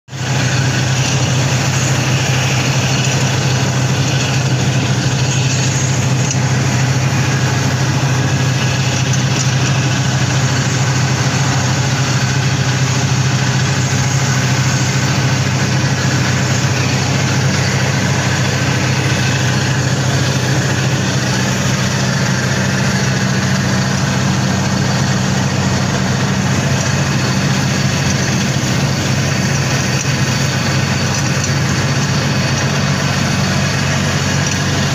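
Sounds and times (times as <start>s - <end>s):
gas torch burning: 0.1s - 34.9s.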